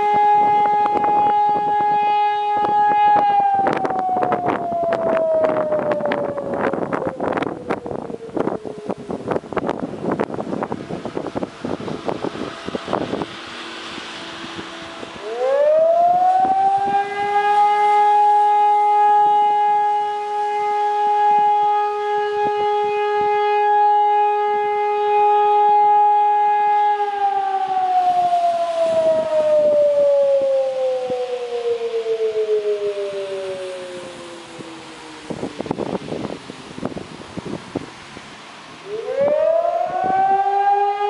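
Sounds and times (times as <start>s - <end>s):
wind buffeting microphone: 0.0s - 24.2s, 25.0s - 41.0s
civil defence siren wailing: 0.0s - 41.0s.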